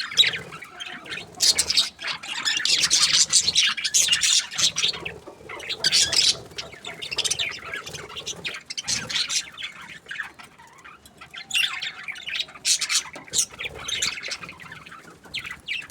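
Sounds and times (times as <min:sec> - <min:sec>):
budgerigars chirping and squawking: 0:00.0 - 0:15.9.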